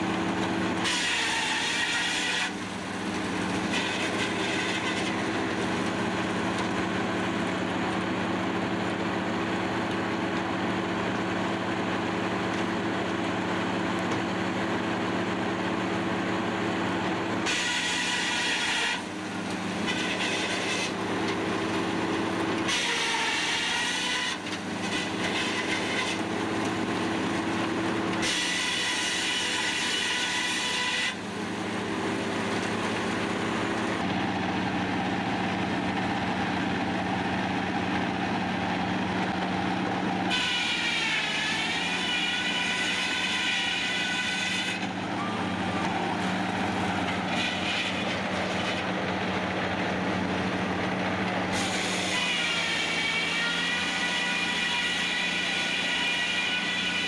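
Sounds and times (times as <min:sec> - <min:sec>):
circular saw whining: 0:00.0 - 0:57.0.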